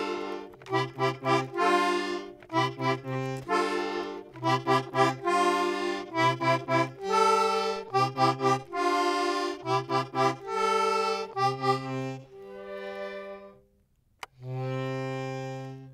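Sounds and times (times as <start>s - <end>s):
music with repeated notes and chords: 0.0s - 15.9s.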